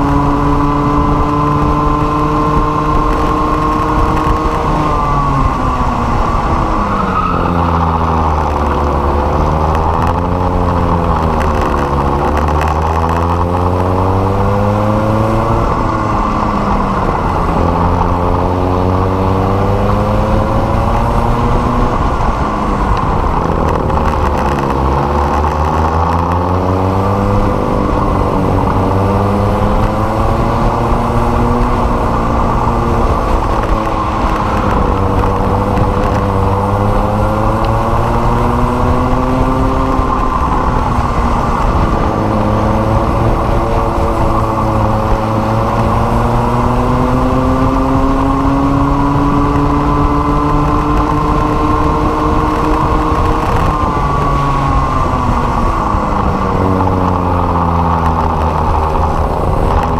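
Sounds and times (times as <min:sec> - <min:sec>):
racing kart engines: 0:00.0 - 0:59.9.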